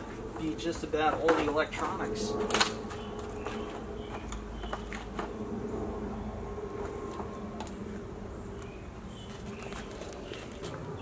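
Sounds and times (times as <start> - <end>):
low buzzing hum: 0.0 - 11.0.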